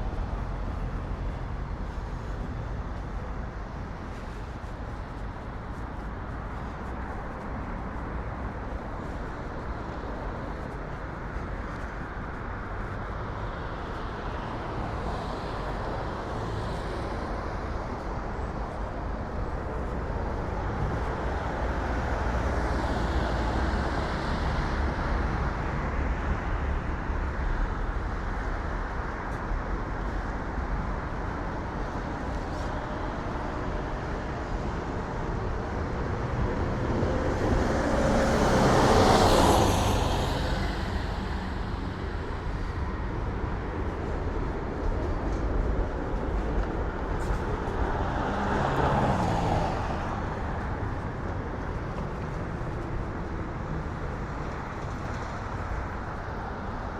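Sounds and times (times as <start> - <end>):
rumble of passing cars: 0.0 - 56.9.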